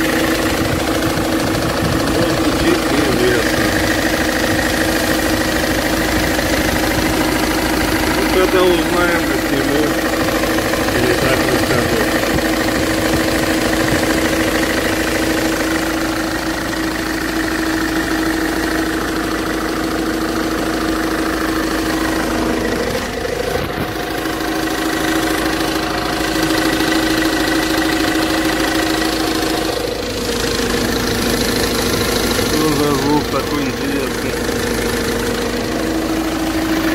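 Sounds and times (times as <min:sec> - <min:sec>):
engine idling with knock: 0:00.0 - 0:36.9.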